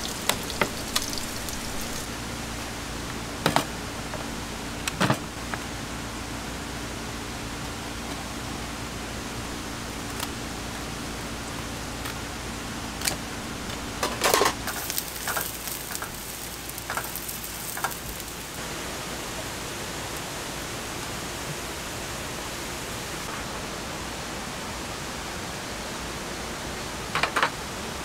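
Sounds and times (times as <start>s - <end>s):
rain falling: 0.0s - 4.9s, 7.7s - 26.1s.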